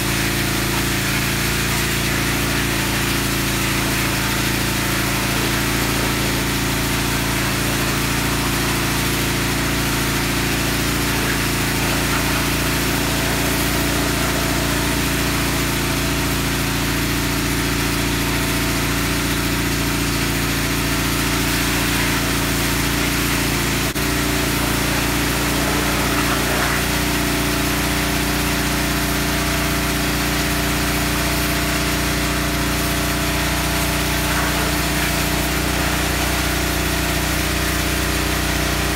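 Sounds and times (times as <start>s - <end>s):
pressure washer engine running: 0.0s - 38.9s
water jet spraying: 0.0s - 38.9s.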